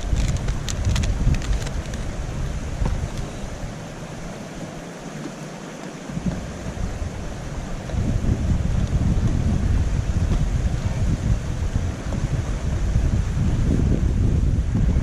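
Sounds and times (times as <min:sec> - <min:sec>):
steady rushing hiss: 0:00.0 - 0:15.0
wind buffeting microphone: 0:00.0 - 0:15.0.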